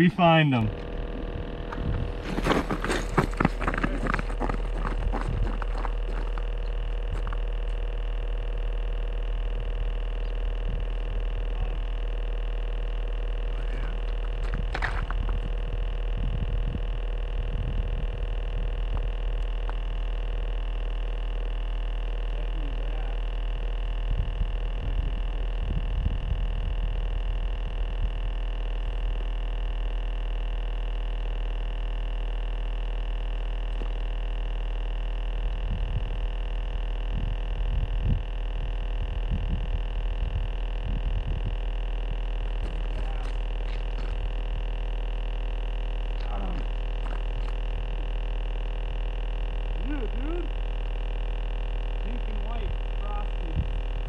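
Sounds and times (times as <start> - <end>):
faint steady tones: 0.0 - 54.0
steady low hum: 0.0 - 54.0
low thumps and rumbles: 0.6 - 20.7, 23.4 - 29.6, 33.4 - 49.8, 50.5 - 54.0.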